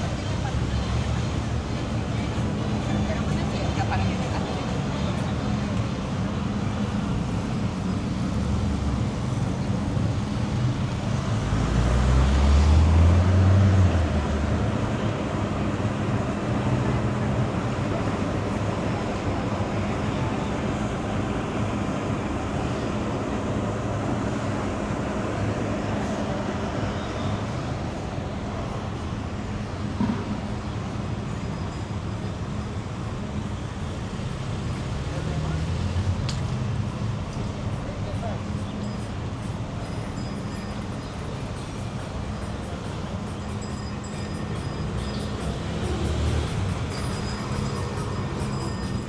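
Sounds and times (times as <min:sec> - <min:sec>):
traffic engine hum: 0:00.0 - 0:49.0.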